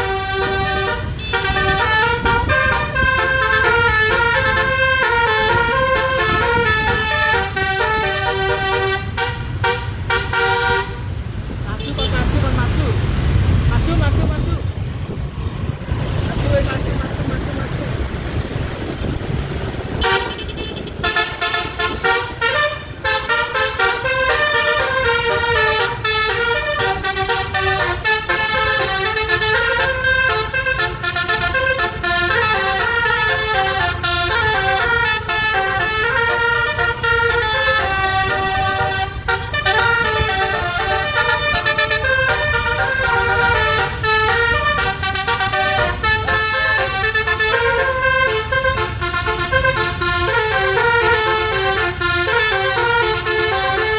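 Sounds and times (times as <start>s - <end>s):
musical air horn melody: 0.0s - 11.1s, 19.9s - 53.9s.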